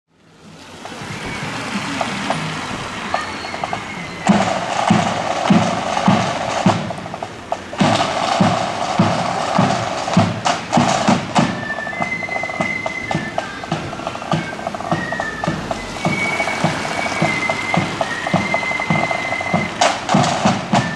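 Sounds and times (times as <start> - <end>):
marching band drums: 0.4 - 20.9
high held notes: 0.5 - 20.9
drum rattle: 0.8 - 20.9.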